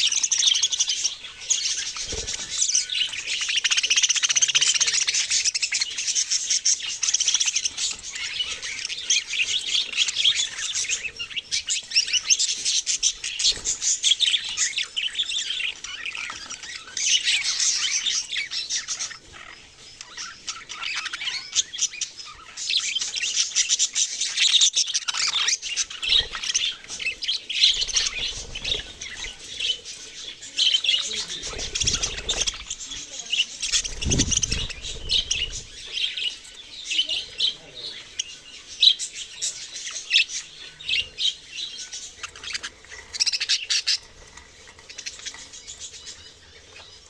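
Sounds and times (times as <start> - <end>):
budgerigars chirping: 0.0 - 47.0.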